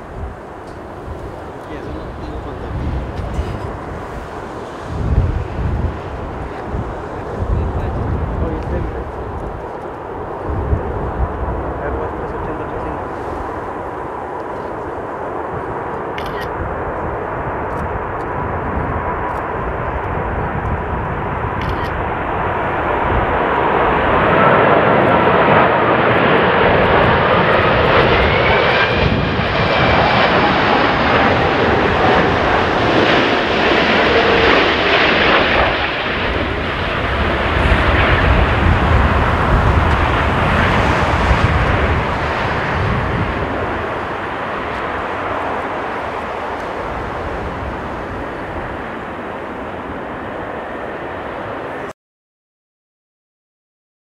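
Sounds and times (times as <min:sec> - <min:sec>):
jet engine noise: 0:00.0 - 0:52.0.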